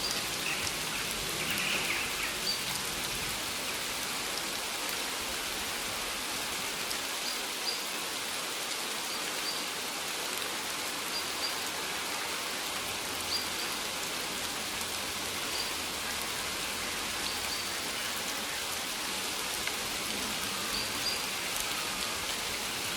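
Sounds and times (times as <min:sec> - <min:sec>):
steady rain hiss: 0:00.0 - 0:22.9.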